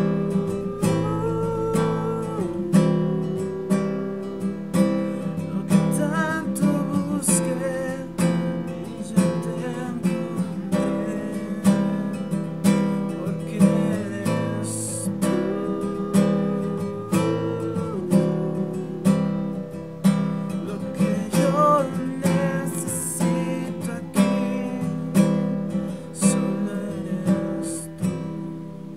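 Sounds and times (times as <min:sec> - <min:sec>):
acoustic guitar strumming: 0:00.0 - 0:28.9.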